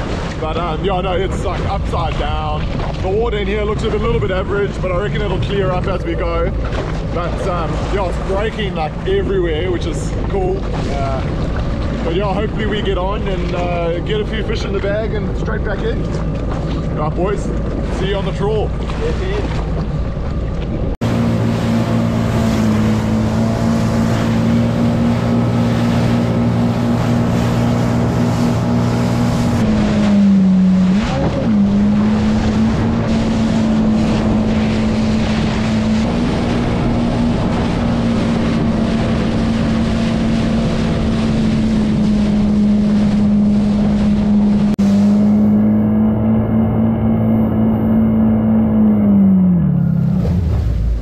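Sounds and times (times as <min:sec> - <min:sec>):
wind buffeting microphone: 0:00.0 - 0:49.2
jet ski engine running: 0:00.0 - 0:51.0.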